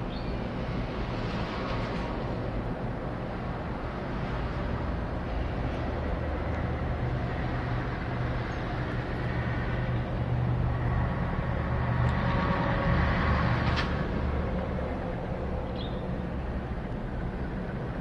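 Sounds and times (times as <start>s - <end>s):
aircraft engine drone overhead: 0.0s - 18.0s.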